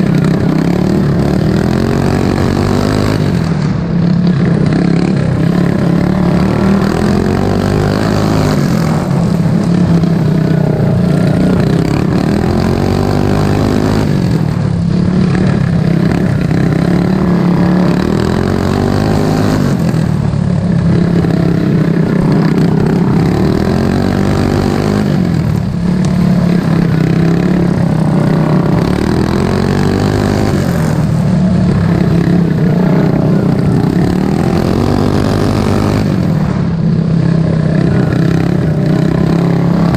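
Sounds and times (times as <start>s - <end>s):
lawn mower engine running hard: 0.0s - 39.9s.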